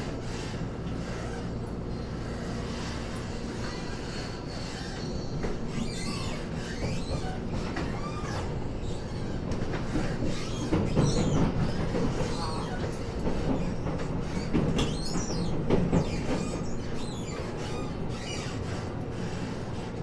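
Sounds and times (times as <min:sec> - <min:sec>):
wheel squeal: 0:00.0 - 0:19.9
train wheels on rails: 0:00.0 - 0:20.0.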